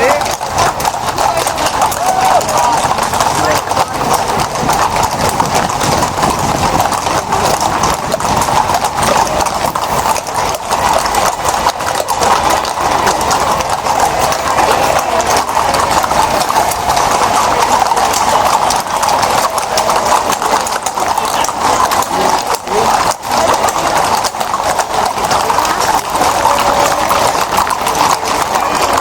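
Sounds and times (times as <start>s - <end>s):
horse hooves clip-clopping on street: 0.0s - 29.0s.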